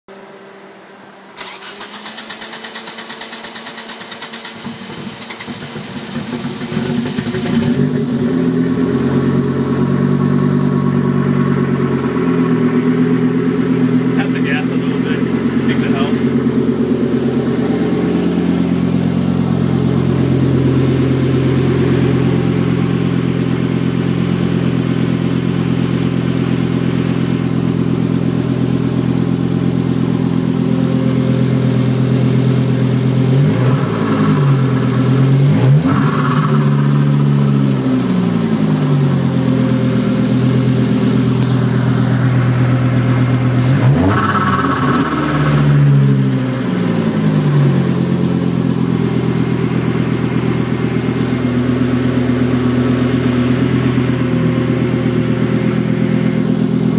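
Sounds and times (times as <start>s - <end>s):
car engine idling and revving: 0.1s - 56.9s.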